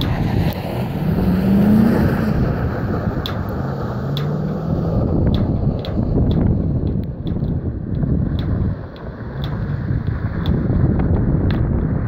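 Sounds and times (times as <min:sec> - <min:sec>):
distant engine revving: 0:00.0 - 0:11.2
wind rumbling on microphone: 0:00.0 - 0:12.0.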